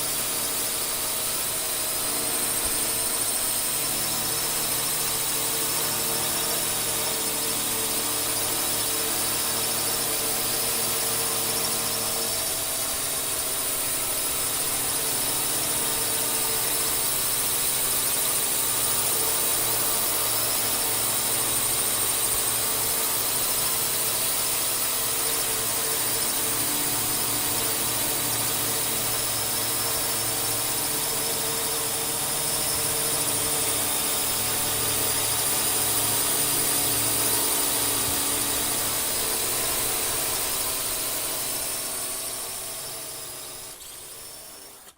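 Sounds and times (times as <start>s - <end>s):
drone propellers whining: 0.1s - 44.9s.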